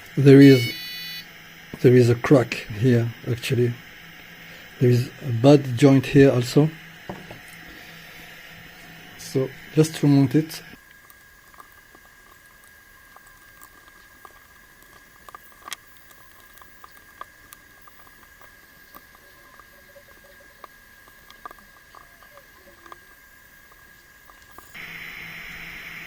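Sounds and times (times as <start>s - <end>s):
faint high whine: 0.0s - 26.0s.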